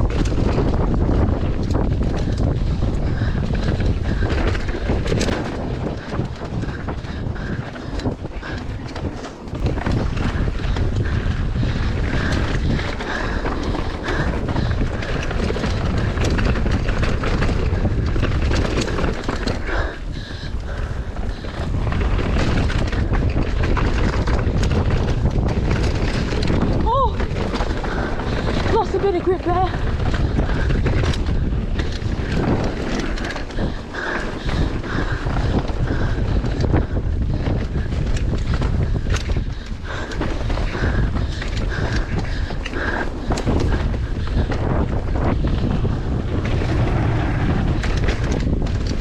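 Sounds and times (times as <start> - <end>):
bike clicks and rattles: 0.0 - 49.0
tyres rumbling on dirt: 0.0 - 49.0
wind buffeting microphone: 0.0 - 49.0.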